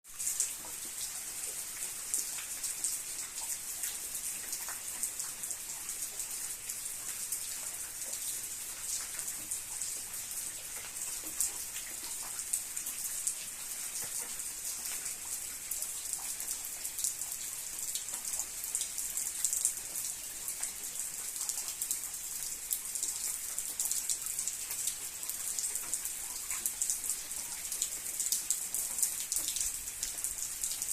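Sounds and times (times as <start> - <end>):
steady rain falling: 0.1 - 30.9
ticks of raindrops: 0.1 - 30.9.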